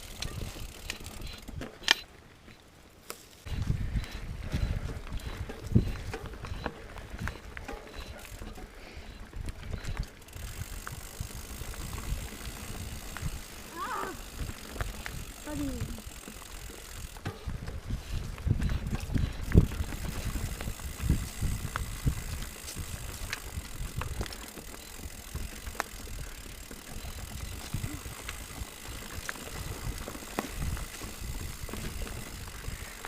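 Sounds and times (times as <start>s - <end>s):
bike knocking and rattling: 0.0s - 33.0s
bike tyres rumbling on trail: 0.0s - 33.0s.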